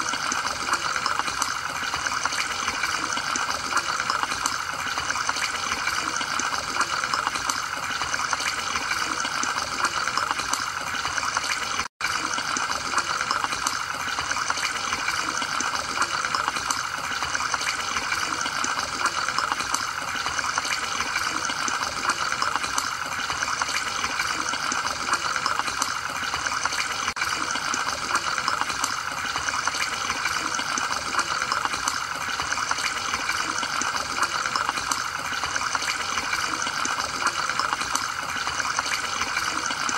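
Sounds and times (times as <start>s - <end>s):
aquarium filter bubbling water: 0.0s - 39.9s.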